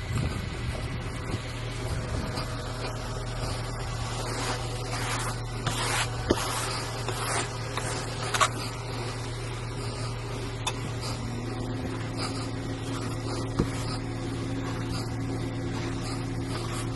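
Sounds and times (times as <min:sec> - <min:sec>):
car engine and road drone: 0:00.0 - 0:16.9.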